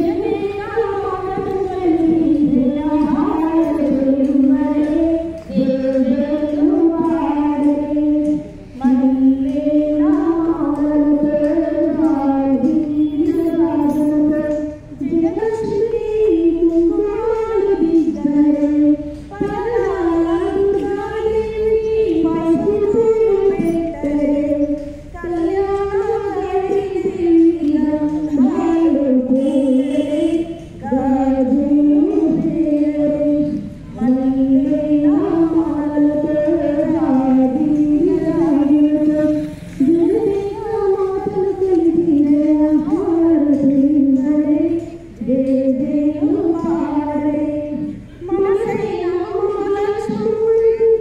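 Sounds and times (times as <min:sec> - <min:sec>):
woman singing unaccompanied: 0:00.0 - 0:51.0.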